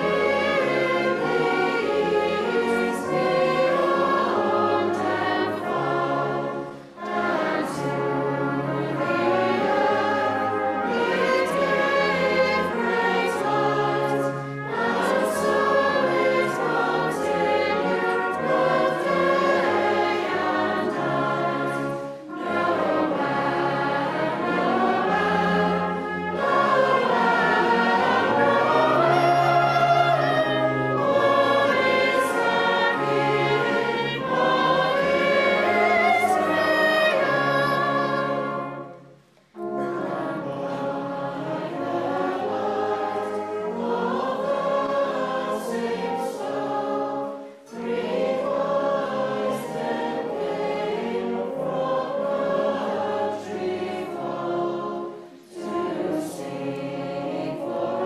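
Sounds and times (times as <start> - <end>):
choir singing a carol: 0.0 - 58.0
instrumental accompaniment: 0.0 - 58.0.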